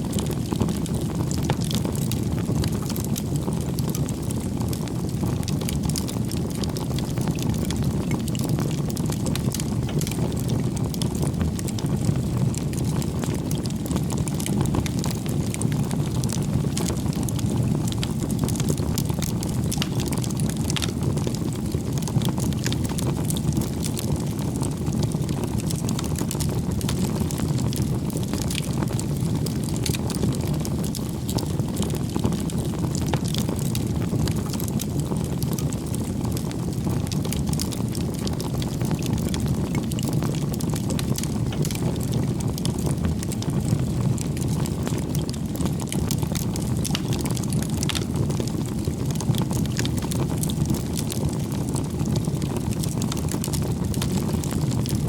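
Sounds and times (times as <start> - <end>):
bonfire flames rumbling: 0.0 - 55.0
wood crackling and popping: 0.1 - 55.0.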